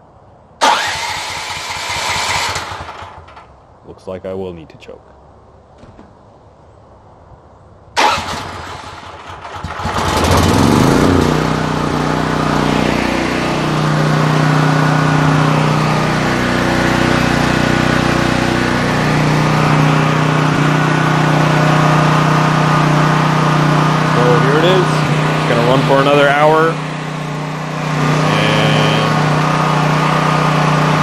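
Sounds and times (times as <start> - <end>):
generator engine running: 0.6 - 3.5, 8.0 - 31.0.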